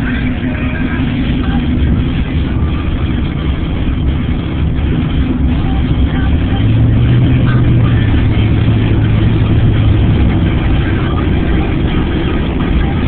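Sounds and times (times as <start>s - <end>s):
car engine hum: 0.0s - 13.0s
road noise rushing: 0.0s - 13.0s.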